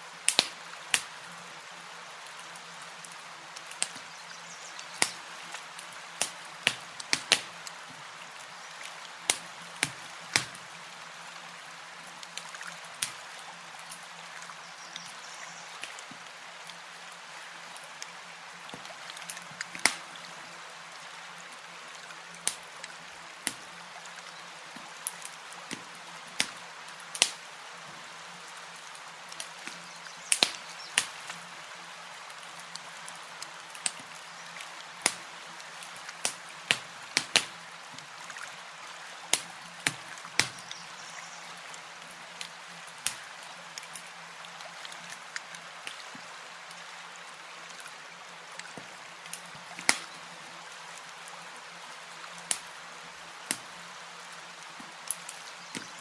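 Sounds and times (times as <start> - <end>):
campfire crackling: 0.0 - 56.0
soft fire hiss: 0.0 - 56.0.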